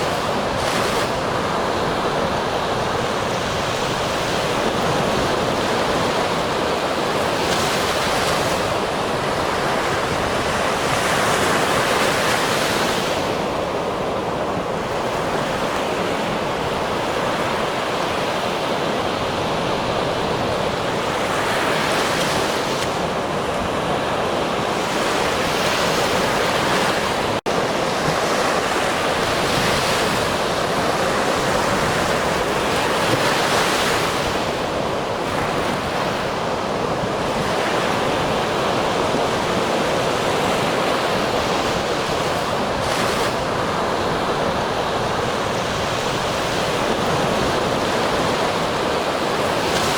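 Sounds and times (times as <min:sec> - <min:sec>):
waves breaking on shore: 0:00.0 - 0:49.9.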